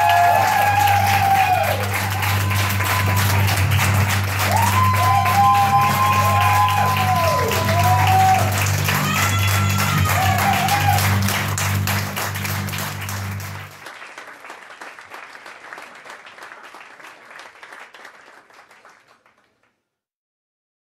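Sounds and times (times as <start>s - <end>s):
audience applauding: 0.0s - 19.7s.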